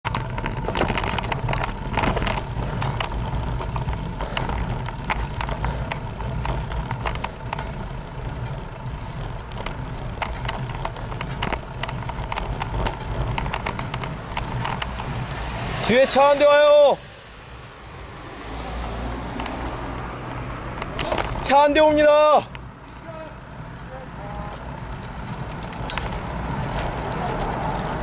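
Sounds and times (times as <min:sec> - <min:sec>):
bicycle clicks and knocks: 0:00.0 - 0:16.4, 0:18.8 - 0:28.0
road and wind rumble: 0:00.0 - 0:28.0.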